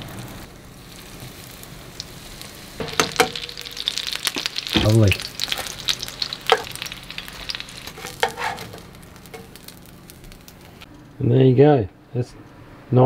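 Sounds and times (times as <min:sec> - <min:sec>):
fish sizzling in hot oil: 0:00.0 - 0:10.9.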